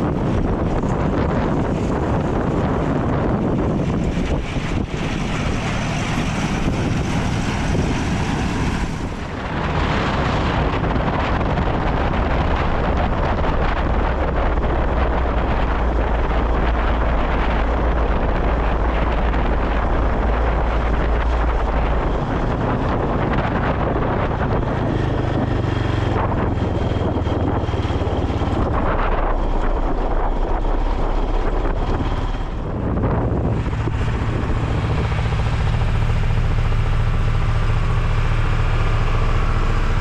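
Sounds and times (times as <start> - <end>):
deep steady rumble: 0.0 - 40.0
tractor engine running: 0.0 - 40.0
wind buffeting microphone: 0.0 - 40.0.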